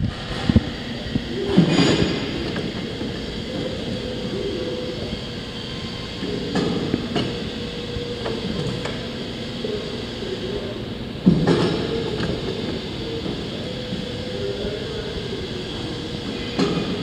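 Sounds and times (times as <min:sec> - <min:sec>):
pipe bending machine motor hum: 0:00.0 - 0:17.0.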